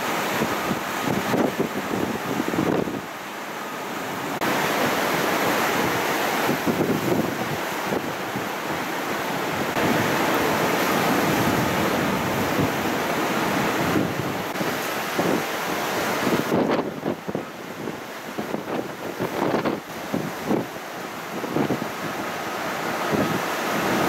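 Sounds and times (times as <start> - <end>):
strong wind buffeting microphone: 0.0 - 3.1, 4.1 - 24.0.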